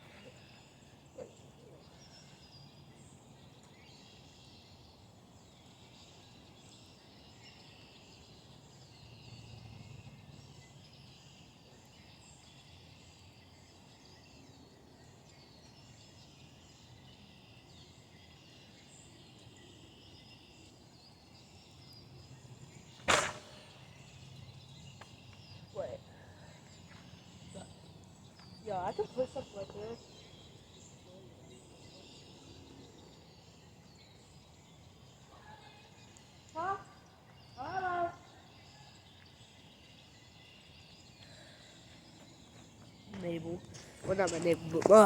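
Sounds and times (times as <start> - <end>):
distant birds chirping: 0.0 - 45.0.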